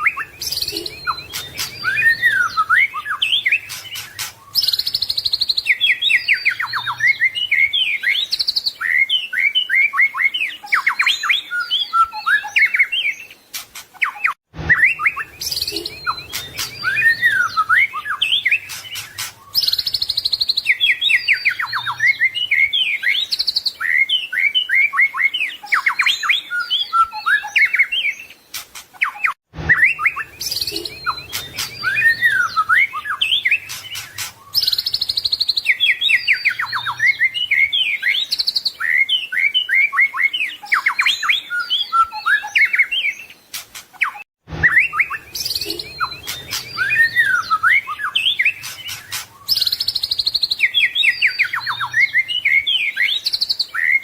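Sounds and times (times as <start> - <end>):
songbird whistles and trills: 0.0 - 54.0.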